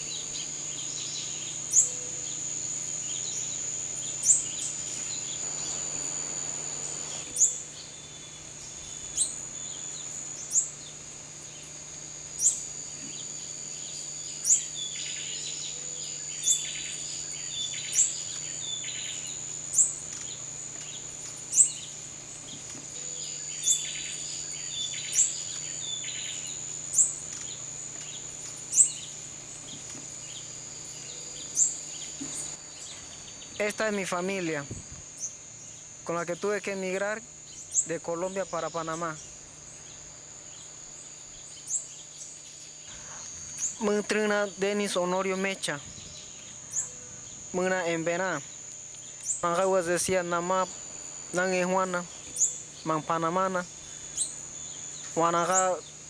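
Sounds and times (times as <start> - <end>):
birds chirping: 0.0 - 56.0
insects droning: 0.0 - 56.0.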